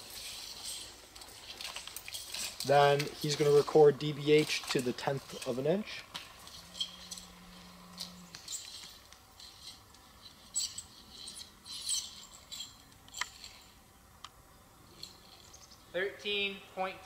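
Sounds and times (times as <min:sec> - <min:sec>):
tape scratching against bark: 0:00.0 - 0:13.9.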